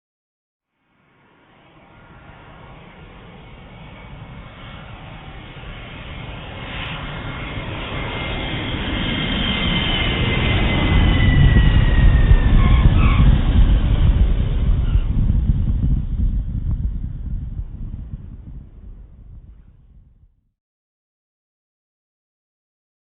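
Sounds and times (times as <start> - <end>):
high whine gliding down: 0.8 - 20.2
jet engine roar: 1.0 - 20.1.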